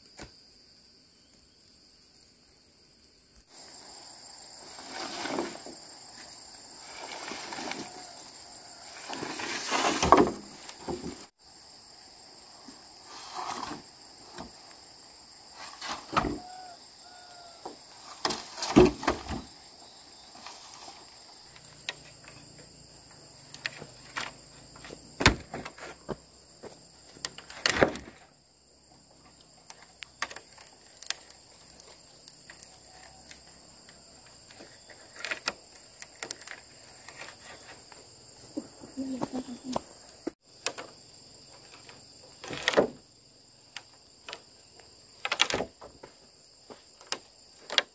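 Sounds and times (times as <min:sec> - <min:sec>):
insects buzzing: 0:00.0 - 0:47.9.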